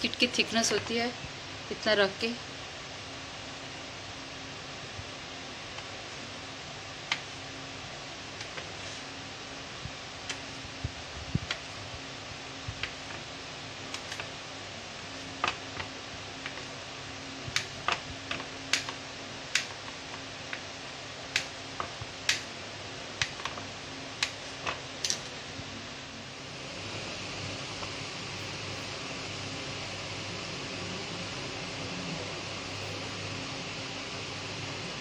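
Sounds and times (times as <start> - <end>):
low hiss and hum: 0.0 - 35.0.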